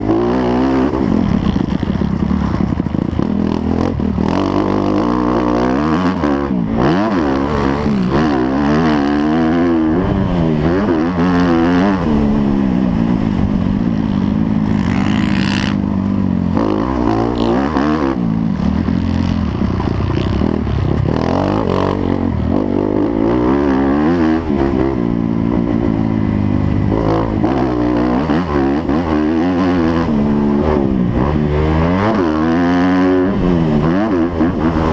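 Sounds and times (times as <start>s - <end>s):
motocross engines revving: 0.0s - 34.9s.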